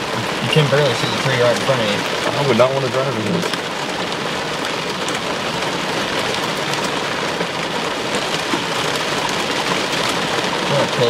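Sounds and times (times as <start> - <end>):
heavy rain on a vehicle: 0.0 - 11.0.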